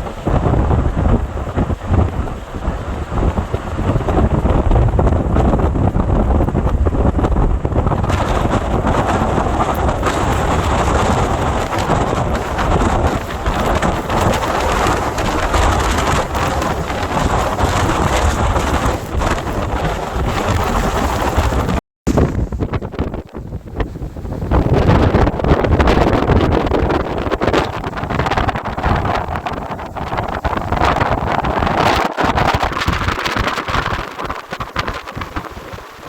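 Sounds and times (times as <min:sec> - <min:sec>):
driving rain: 0:00.0 - 0:36.0
wind buffeting microphone: 0:00.0 - 0:36.0.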